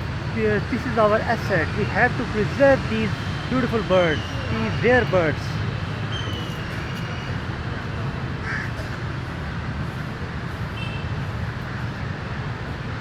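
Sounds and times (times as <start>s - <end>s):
distant traffic rumble: 0.0s - 10.6s.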